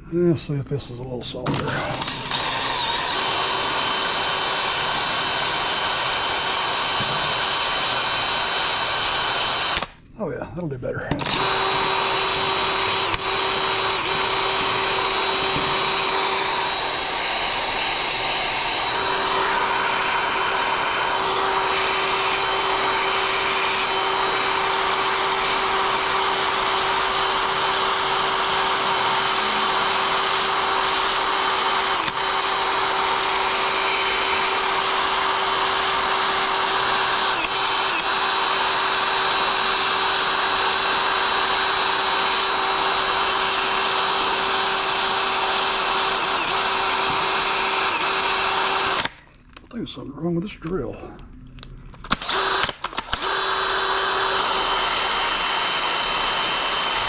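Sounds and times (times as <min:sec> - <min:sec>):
cordless drill whining: 0:01.4 - 0:10.0, 0:11.2 - 0:49.3, 0:52.0 - 0:57.0.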